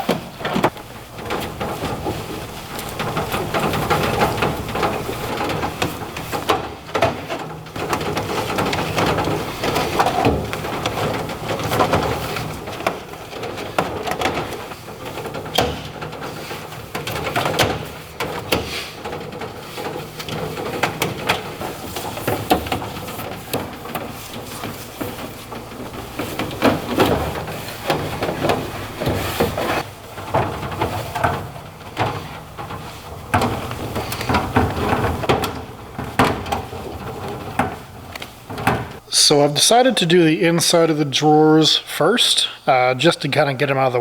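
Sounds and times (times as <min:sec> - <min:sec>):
toolbox drawers clicking and scraping: 0:00.0 - 0:39.2.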